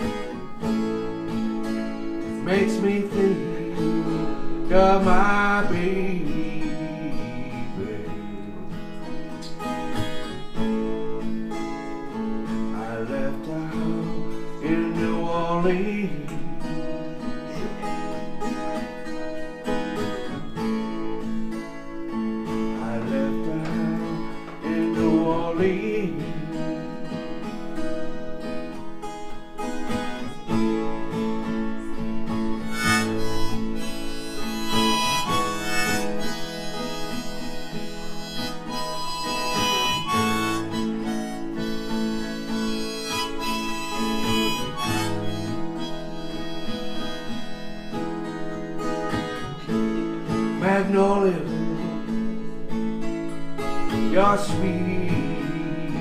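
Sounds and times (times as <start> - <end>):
harmonica melody: 0.0 - 52.8
acoustic guitar strumming: 0.0 - 56.0.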